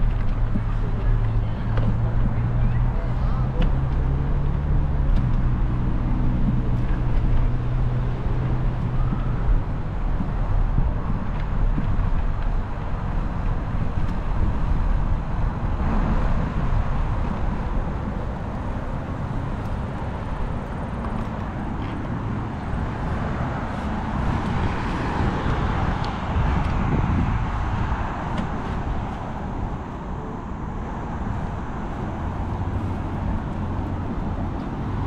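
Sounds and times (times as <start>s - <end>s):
cars passing: 0.0s - 35.0s
wind buffeting microphone: 0.0s - 35.0s.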